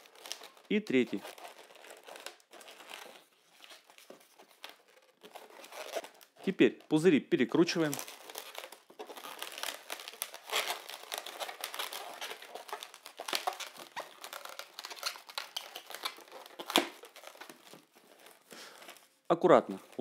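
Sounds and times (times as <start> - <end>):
balloons rubbing and squeaking: 0.0 - 20.0.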